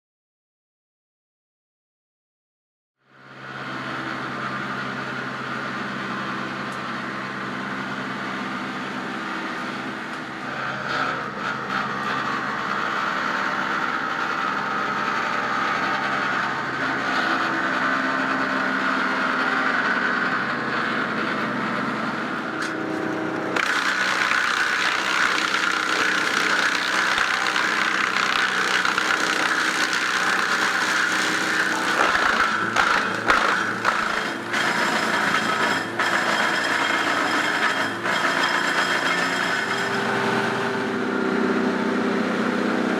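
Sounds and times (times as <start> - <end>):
wood chipper running: 3.1 - 42.9
loud harsh chipping noise: 3.4 - 42.9.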